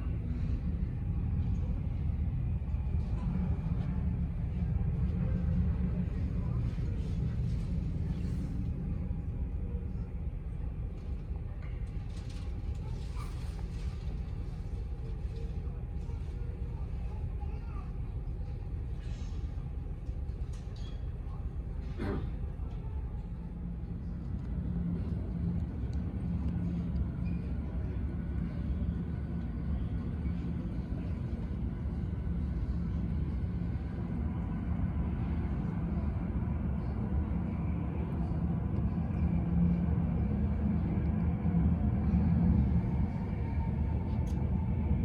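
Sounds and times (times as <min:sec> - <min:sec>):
low engine rumble: 0:00.0 - 0:45.0.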